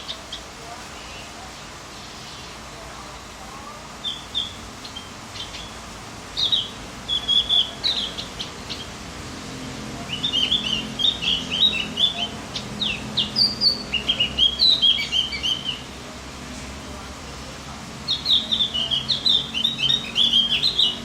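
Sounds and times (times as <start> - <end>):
songbird chirping: 0.0 - 16.0, 18.0 - 21.0.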